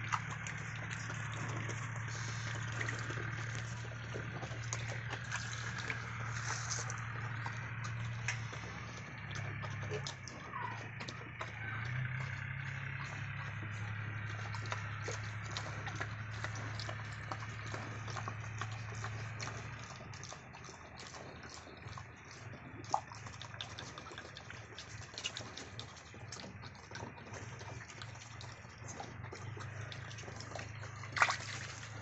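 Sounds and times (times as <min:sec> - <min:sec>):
low steady hum: 0:00.0 - 0:32.0
piglets slurping and chomping: 0:00.0 - 0:32.0.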